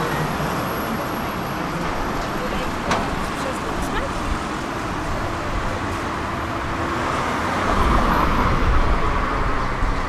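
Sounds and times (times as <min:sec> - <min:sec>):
cars driving past: 0:00.0 - 0:10.0.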